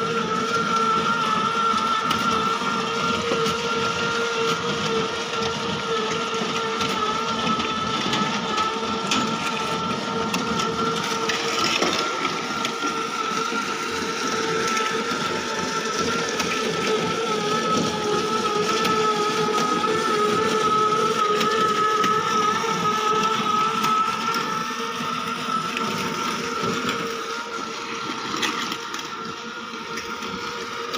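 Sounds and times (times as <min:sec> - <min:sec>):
machine motor whining: 0:00.0 - 0:30.9.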